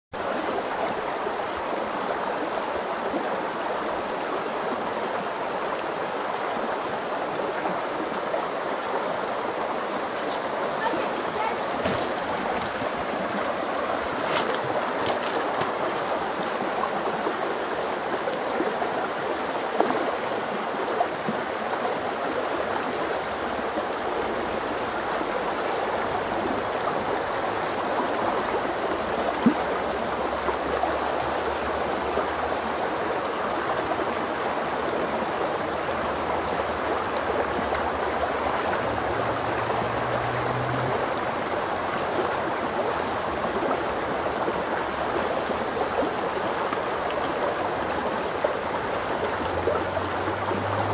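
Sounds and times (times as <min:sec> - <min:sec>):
stream running over stones: 0:00.2 - 0:50.9.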